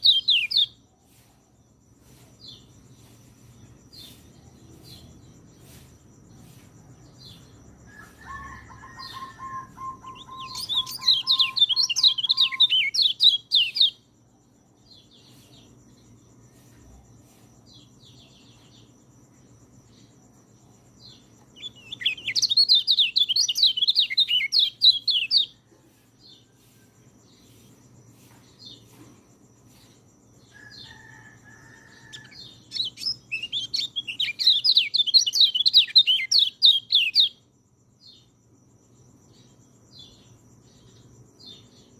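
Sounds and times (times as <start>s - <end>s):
songbird chattering song: 0.0s - 38.4s.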